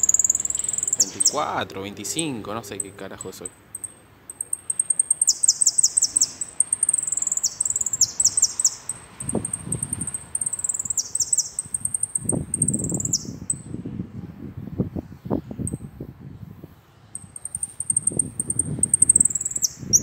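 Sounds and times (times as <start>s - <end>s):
finch singing trilled notes: 0.0s - 13.7s, 17.2s - 20.0s.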